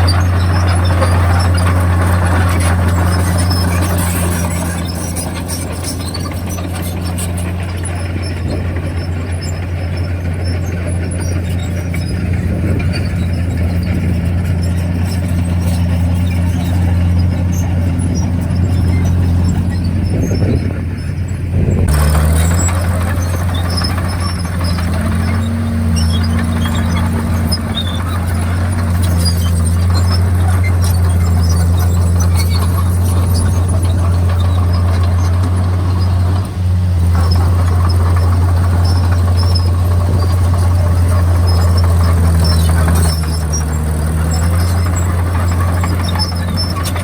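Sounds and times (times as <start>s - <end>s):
bulldozer diesel engine droning: 0.0s - 47.0s.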